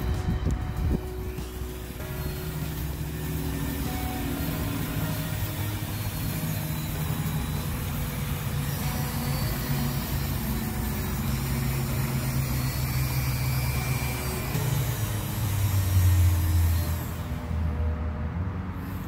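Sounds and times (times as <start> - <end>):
rotary tool grinding rock: 0.8 - 17.5.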